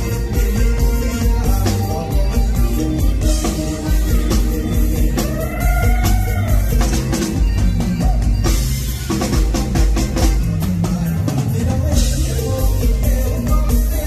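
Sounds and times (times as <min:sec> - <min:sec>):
live band playing: 0:00.0 - 0:14.0
loud drum kit beat: 0:00.0 - 0:14.0.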